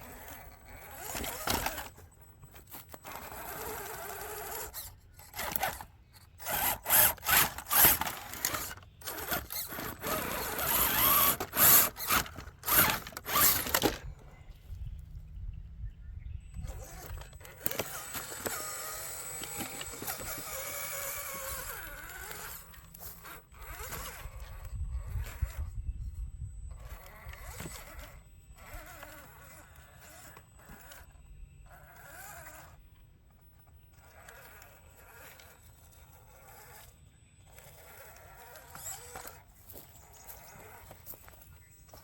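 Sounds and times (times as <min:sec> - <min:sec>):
toy car electric motor whining: 0:00.0 - 0:14.2, 0:16.5 - 0:42.0.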